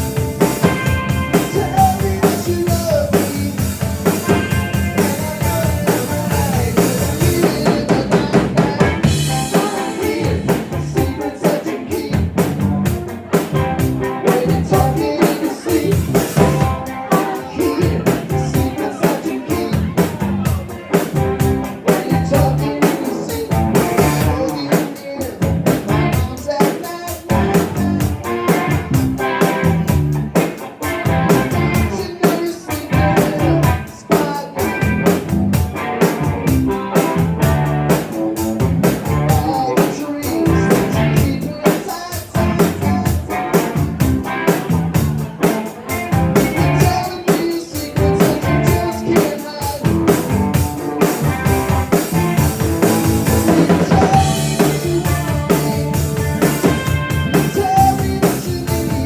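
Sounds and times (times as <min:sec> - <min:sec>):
bass guitar: 0:00.0 - 0:59.0
drum kit beat: 0:00.0 - 0:59.0
electric guitar: 0:00.0 - 0:59.0.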